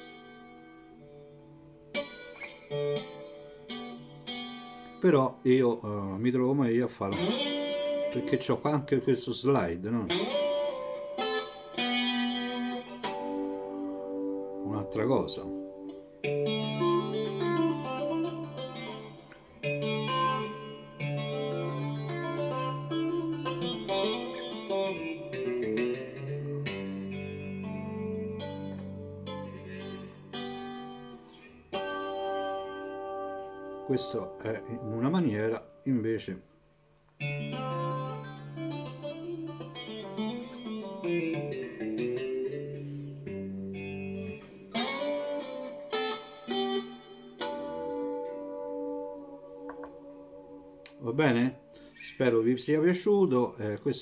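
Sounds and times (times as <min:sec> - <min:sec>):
clean electric guitar tapping: 0:01.9 - 0:05.0, 0:07.1 - 0:09.0, 0:10.0 - 0:14.6, 0:15.6 - 0:35.8, 0:37.1 - 0:52.1.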